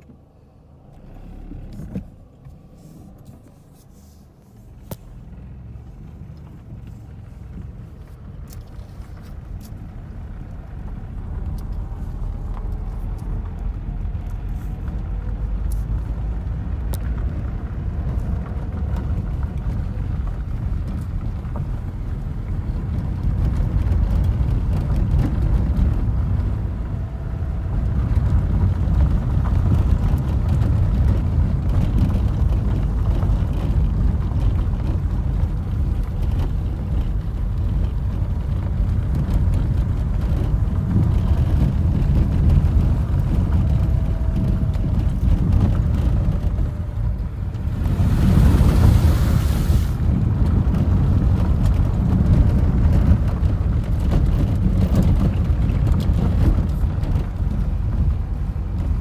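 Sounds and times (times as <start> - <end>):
tyres rumbling on gravel: 0.7 - 59.0.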